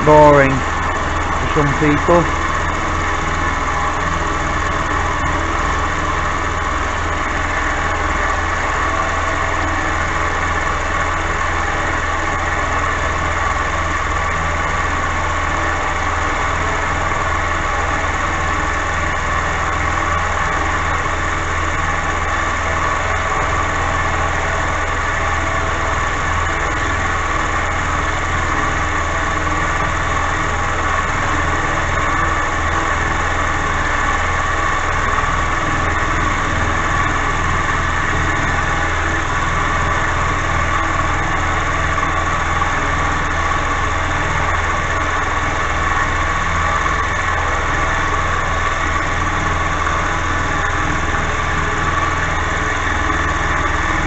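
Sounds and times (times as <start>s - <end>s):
milling machine hum and whine: 0.0s - 54.0s.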